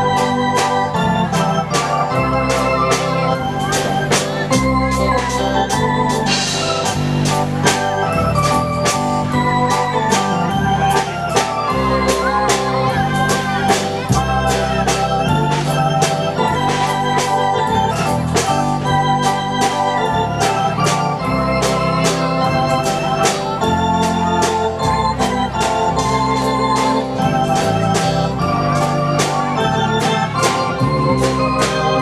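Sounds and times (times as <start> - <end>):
waltz music: 0.0 - 32.0.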